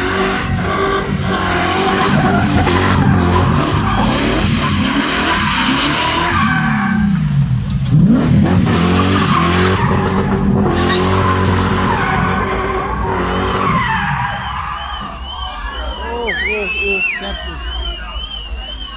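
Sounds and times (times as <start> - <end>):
car engine revving: 0.0 - 18.9
tyres skidding and squealing: 0.0 - 18.9.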